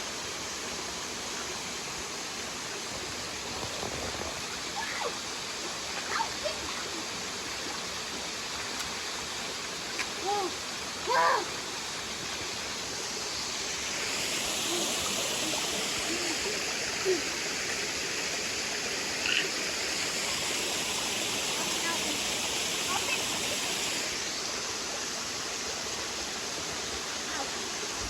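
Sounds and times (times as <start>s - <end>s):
cascading stream and waterfall: 0.0s - 28.0s.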